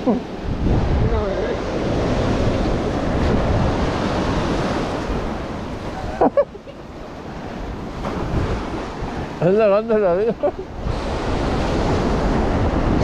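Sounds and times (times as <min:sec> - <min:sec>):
surf washing on rocks: 0:00.0 - 0:13.0
wind buffeting microphone: 0:00.0 - 0:13.0.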